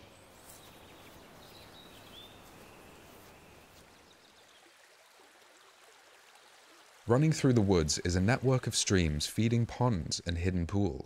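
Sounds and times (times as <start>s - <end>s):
low woodland hiss: 0.0s - 10.5s.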